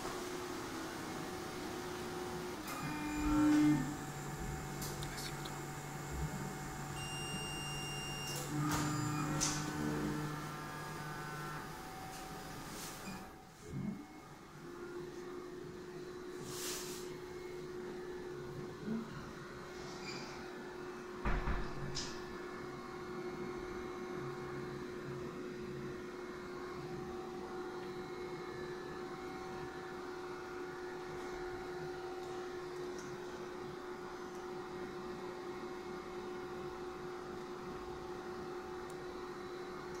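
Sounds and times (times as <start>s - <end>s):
electrical equipment humming: 0.0s - 40.0s.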